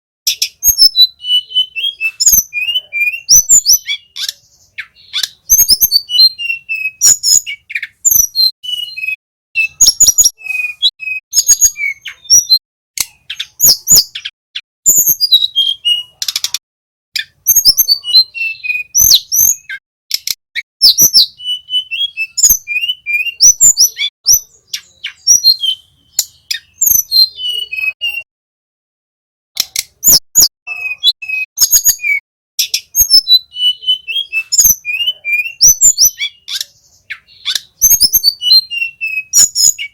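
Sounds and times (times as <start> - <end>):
bird chirps and trills: 0.3 - 16.6, 17.2 - 28.3, 29.6 - 39.9.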